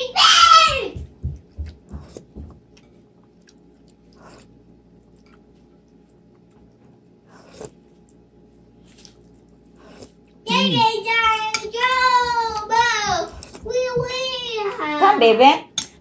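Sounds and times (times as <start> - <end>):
soft chewing: 1.1 - 15.0.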